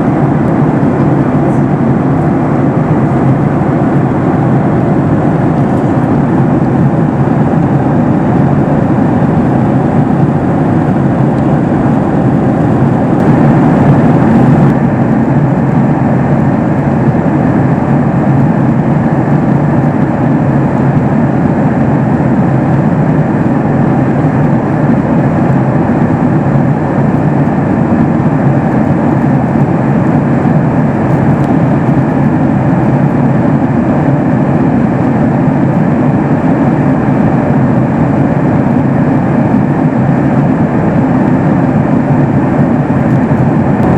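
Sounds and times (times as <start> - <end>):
airplane cabin engine drone: 0.0 - 43.9.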